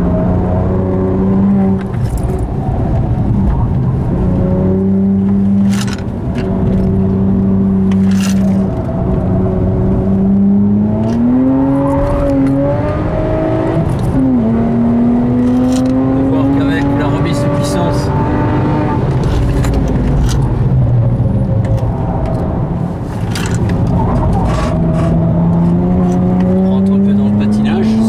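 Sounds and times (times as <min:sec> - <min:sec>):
car engine from inside cabin: 0:00.0 - 0:28.0.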